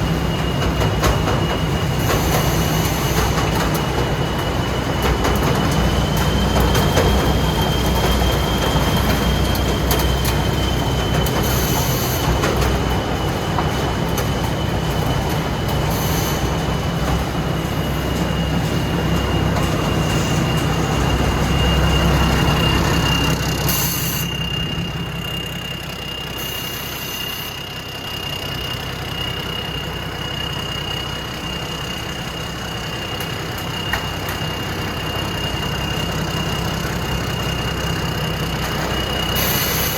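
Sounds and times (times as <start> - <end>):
combine harvester engine rumble: 0.0 - 39.9
high machinery whine: 0.0 - 39.9.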